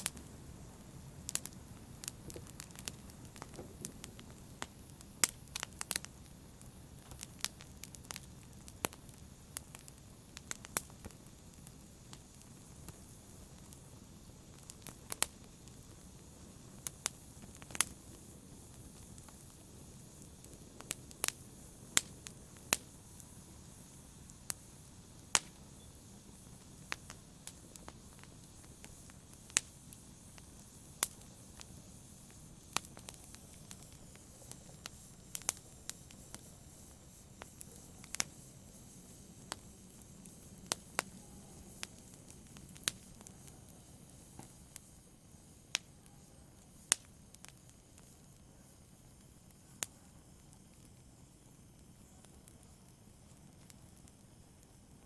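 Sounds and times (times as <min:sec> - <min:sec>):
fireplace fire crackling: 0:00.0 - 0:55.0
low steady hiss: 0:00.0 - 0:55.0.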